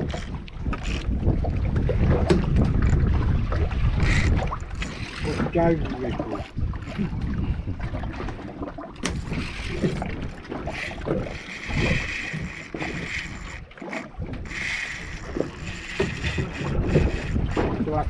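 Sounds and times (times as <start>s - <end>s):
water noise: 0.0s - 18.0s
wind buffeting microphone: 0.0s - 18.0s.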